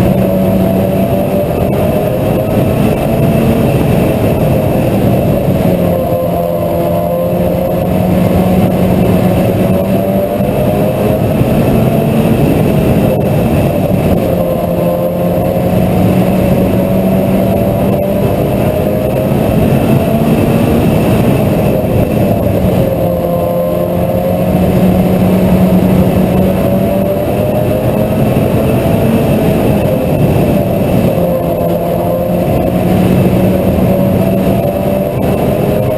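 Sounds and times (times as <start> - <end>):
race car engine running hard: 0.0 - 35.9.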